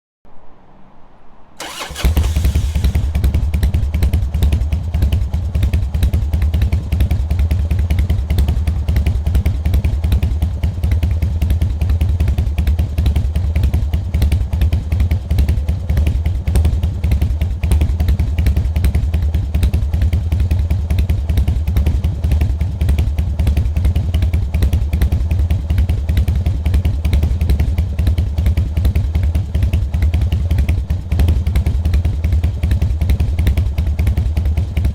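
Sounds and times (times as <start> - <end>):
motorcycle engine idling: 1.6 - 34.9.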